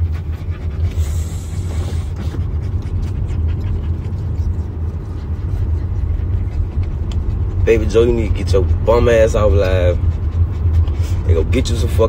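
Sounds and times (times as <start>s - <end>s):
car cabin engine and road noise: 0.0s - 12.0s.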